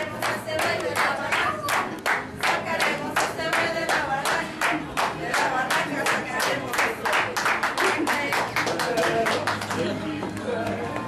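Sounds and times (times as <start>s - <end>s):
rhythmic handclaps: 0.0s - 11.0s.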